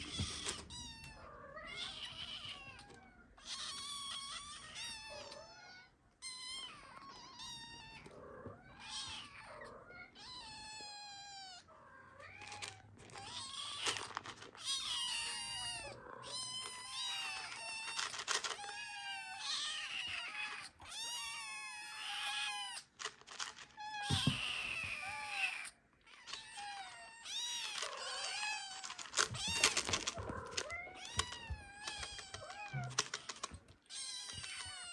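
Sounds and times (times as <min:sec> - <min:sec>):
kittens meowing: 0:00.0 - 0:23.0, 0:23.8 - 0:34.9.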